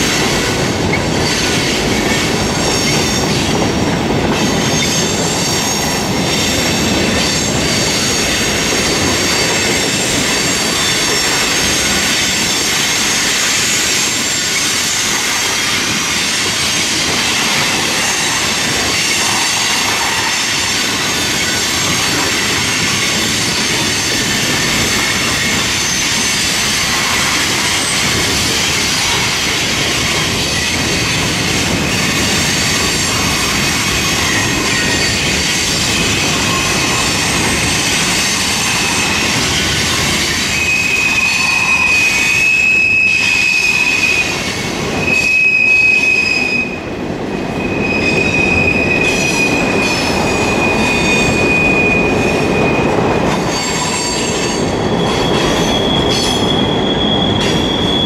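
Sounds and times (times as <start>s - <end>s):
rumble of freight cars on track: 0.0s - 58.0s
steel wheels squealing on rail: 0.0s - 58.0s.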